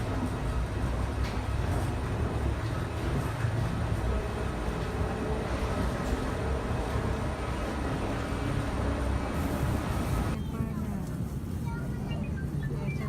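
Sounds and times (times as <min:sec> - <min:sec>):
airplane cabin rumble and hiss: 0:00.0 - 0:13.0.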